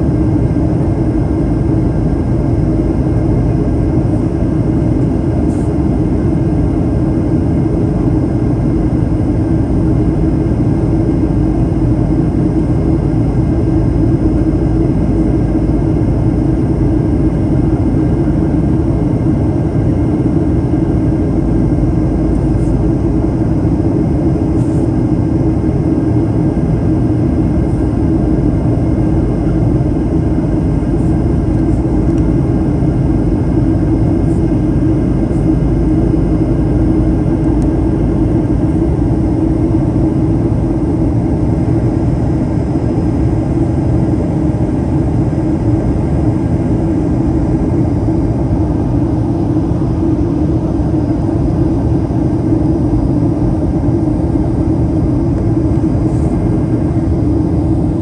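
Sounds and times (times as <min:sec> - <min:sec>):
jet engines droning: 0:00.0 - 0:58.0
airflow rushing over fuselage: 0:01.0 - 0:58.0.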